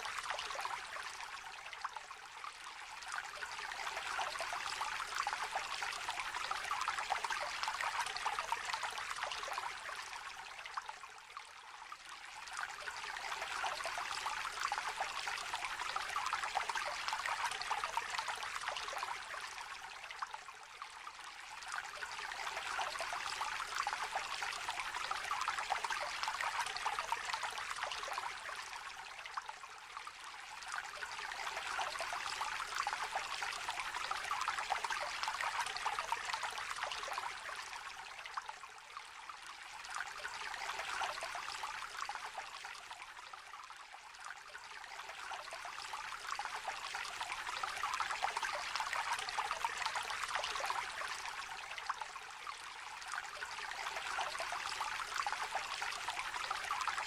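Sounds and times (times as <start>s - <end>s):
small river babbling: 0.0s - 57.0s.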